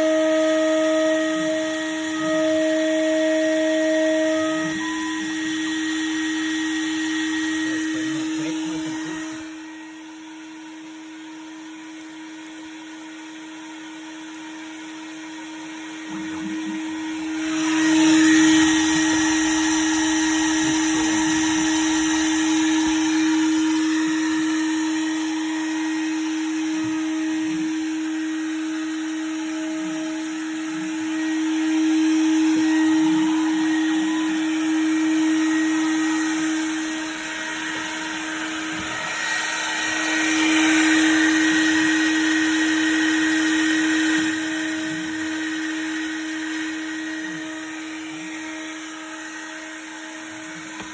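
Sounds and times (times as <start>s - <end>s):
mill spindle whining: 0.0s - 50.9s.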